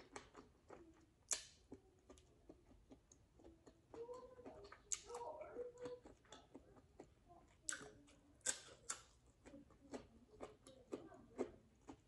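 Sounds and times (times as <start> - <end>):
chewing and wet mouth noises: 0.0 - 12.0.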